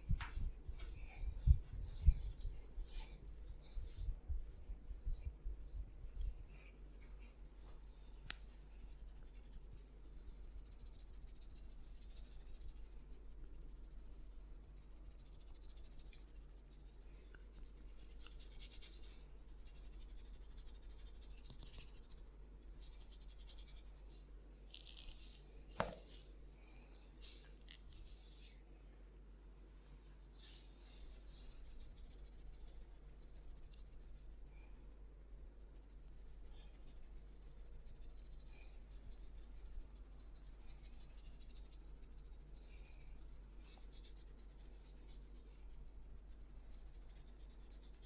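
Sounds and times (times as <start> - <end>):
hands rubbing skin and hair: 0.0 - 48.0.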